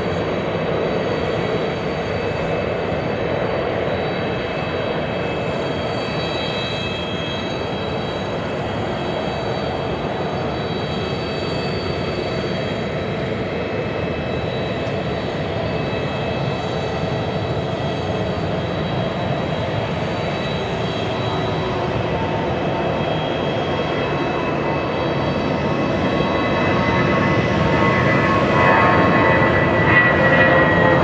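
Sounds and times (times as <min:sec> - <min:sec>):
jet engines at takeoff thrust: 0:00.0 - 0:31.0.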